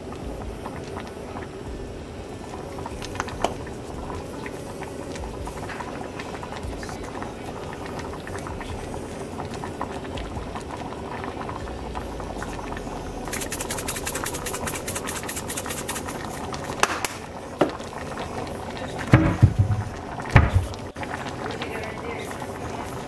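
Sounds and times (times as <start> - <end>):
pot bubbling at a boil: 0.0 - 23.0
seasoning sprinkled crackling hiss: 0.0 - 23.0.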